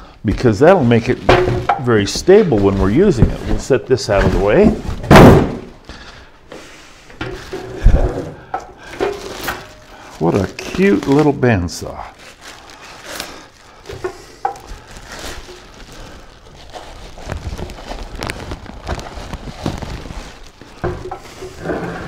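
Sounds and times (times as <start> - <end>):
plastic wrapping crinkling: 0.0 - 6.4, 7.0 - 22.0.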